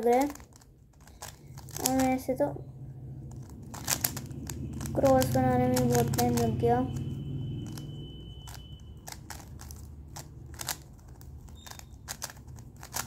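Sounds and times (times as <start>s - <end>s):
puzzle cube clicking: 0.0s - 2.3s, 3.2s - 13.0s.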